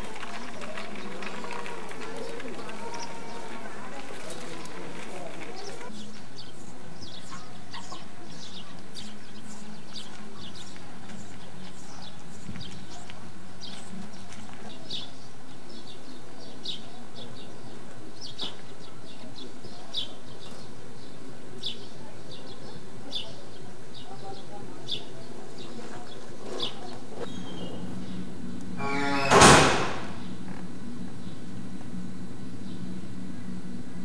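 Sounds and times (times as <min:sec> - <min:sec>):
birds chirping: 0:00.0 - 0:34.0
steady background noise: 0:00.0 - 0:34.0.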